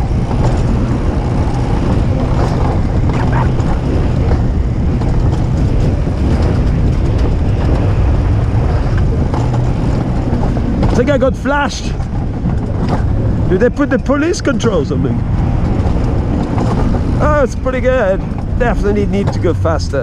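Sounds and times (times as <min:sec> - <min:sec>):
sled wheels rumbling on rail: 0:00.0 - 0:20.0
wind on microphone: 0:00.0 - 0:20.0.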